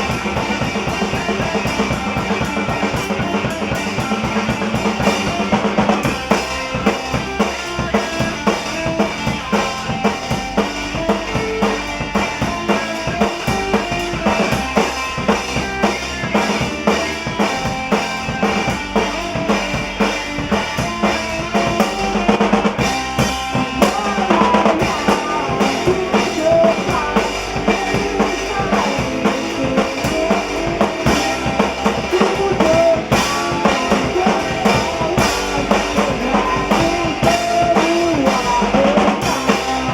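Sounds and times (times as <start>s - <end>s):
drum kick and snare beat: 0.0s - 39.9s
high melodic guitar line: 0.0s - 39.9s
rock band playing live: 0.0s - 39.9s.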